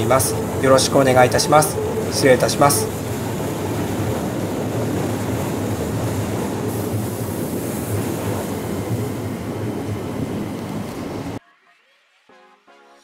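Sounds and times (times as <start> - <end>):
train rumbling over steel bridge: 0.0 - 11.4.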